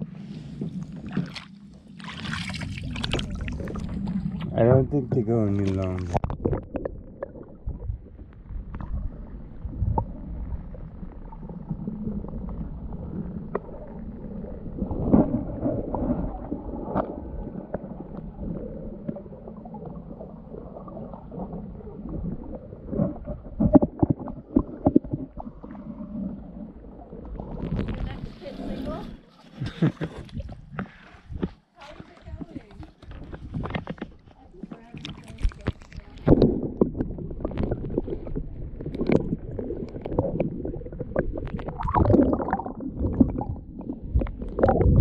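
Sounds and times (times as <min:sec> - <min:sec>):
water sloshing and gurgling: 0:00.0 - 0:45.0.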